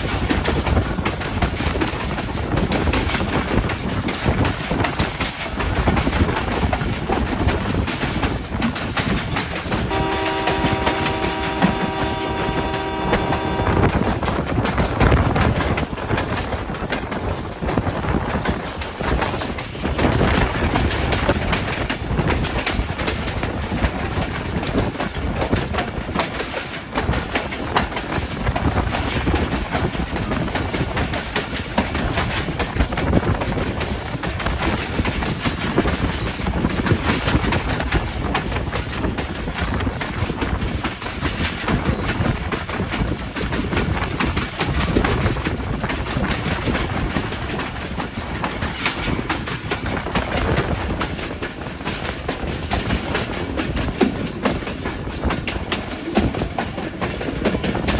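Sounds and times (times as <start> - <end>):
train wheels rumbling on track: 0.0 - 57.9
wheels clattering over rail joints: 0.0 - 57.9.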